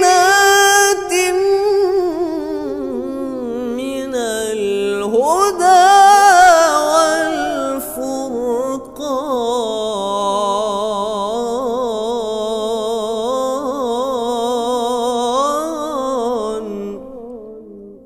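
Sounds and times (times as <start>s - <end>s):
man reciting melodically: 0.0s - 18.0s.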